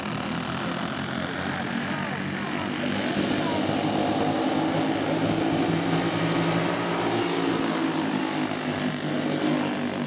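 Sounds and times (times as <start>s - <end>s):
kart engines buzzing: 0.0s - 10.0s.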